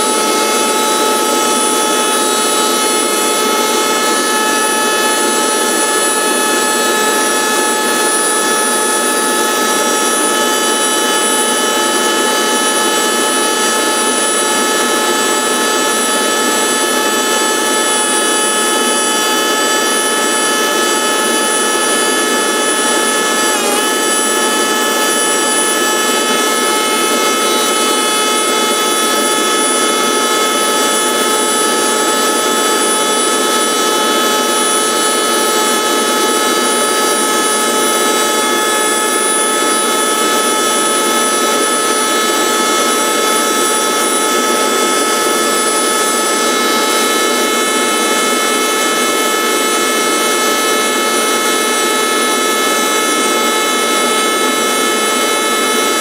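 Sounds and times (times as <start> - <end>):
cutter motor whining: 0.0 - 56.0
cutting wood noise: 0.0 - 56.0.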